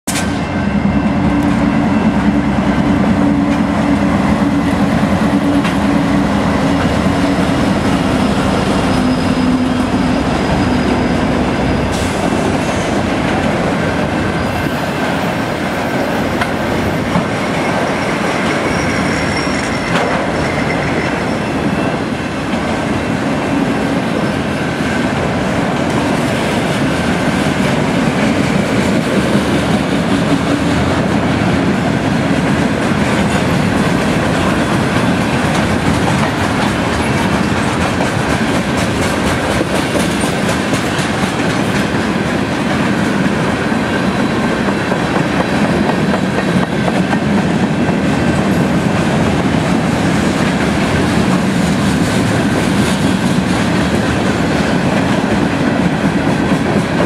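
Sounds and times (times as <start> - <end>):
rumble of wheels on rail: 0.1 - 57.0.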